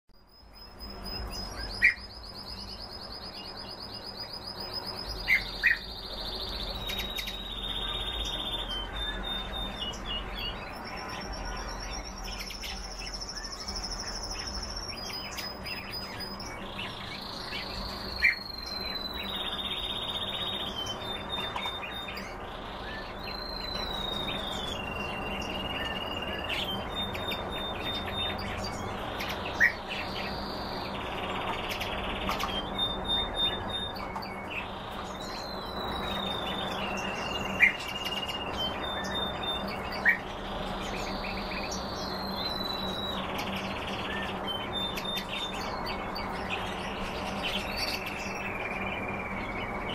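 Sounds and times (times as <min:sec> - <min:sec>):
faint bird chirps: 0:00.2 - 0:49.9.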